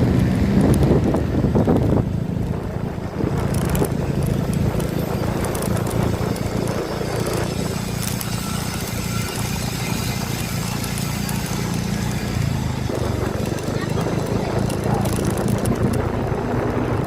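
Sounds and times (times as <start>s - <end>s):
vehicle engine rumbling: 0.0s - 17.0s
wind on microphone: 0.0s - 17.0s.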